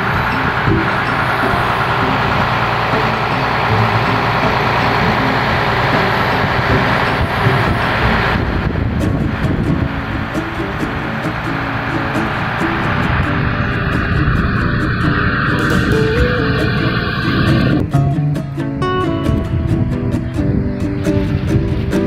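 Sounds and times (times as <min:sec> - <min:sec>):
ferry engine running: 0:00.0 - 0:22.0
rushing noise: 0:00.0 - 0:22.0.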